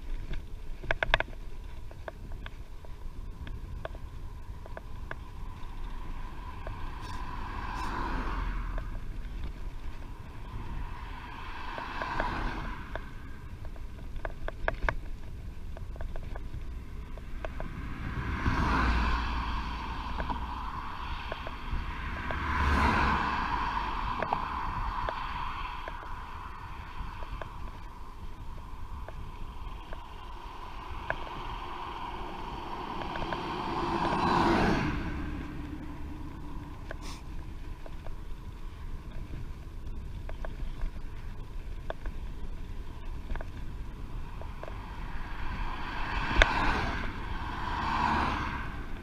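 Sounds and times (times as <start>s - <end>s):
wind noise on microphone: 0.0s - 49.0s.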